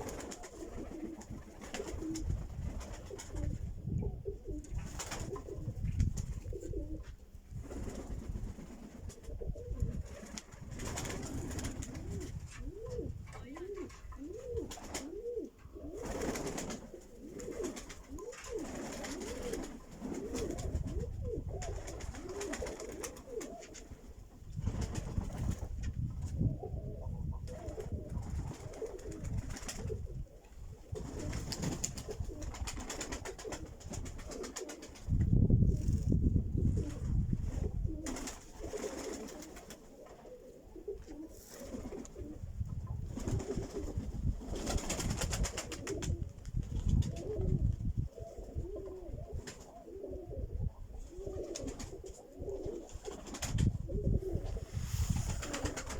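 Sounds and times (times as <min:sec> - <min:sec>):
pigeons cooing: 0:00.0 - 0:07.1, 0:07.7 - 0:24.1, 0:26.3 - 0:35.0, 0:36.7 - 0:55.9.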